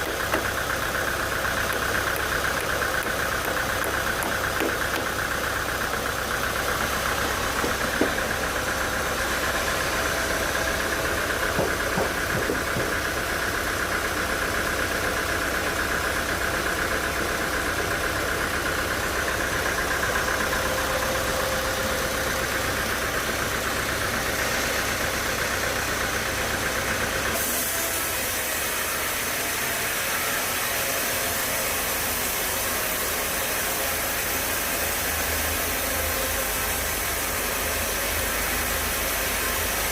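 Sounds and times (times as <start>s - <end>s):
constant machine whine: 0.0s - 39.9s
sawmill machinery running: 0.0s - 39.9s.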